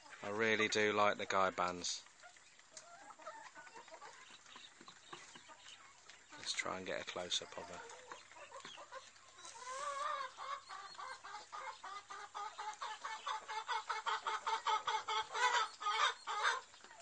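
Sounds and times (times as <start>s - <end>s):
hen clucking: 0.0s - 17.0s.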